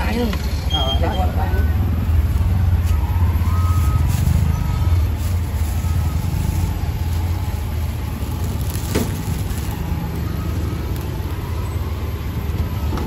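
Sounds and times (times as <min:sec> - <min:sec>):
traffic engine noise: 0:00.0 - 0:13.0.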